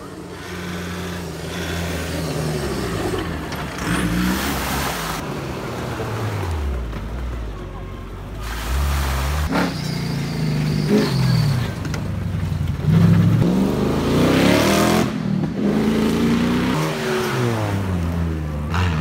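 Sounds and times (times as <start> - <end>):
off-road engines revving: 0.0 - 7.6, 8.4 - 19.0.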